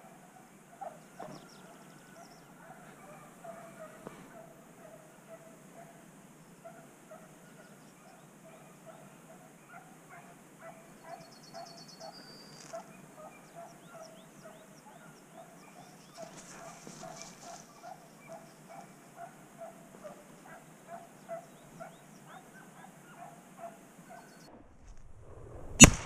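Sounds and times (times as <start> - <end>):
distant dog yelping: 0.8 - 6.0, 6.7 - 24.5.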